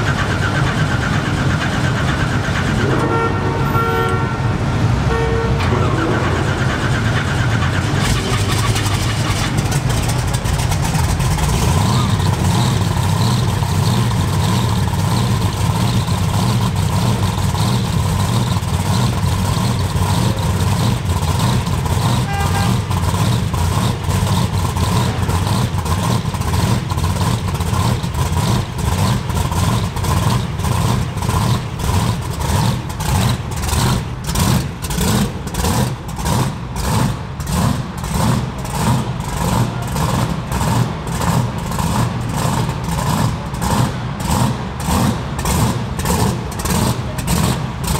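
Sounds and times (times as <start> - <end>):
supercharged car engine idling: 0.0 - 47.9.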